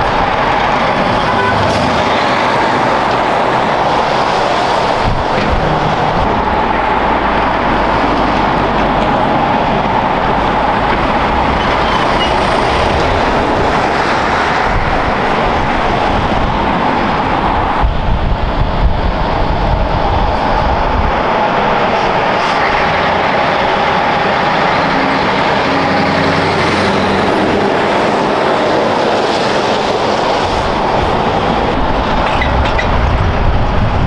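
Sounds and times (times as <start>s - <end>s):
diesel truck engines: 0.0s - 34.0s
tyre roar on road: 0.0s - 34.0s.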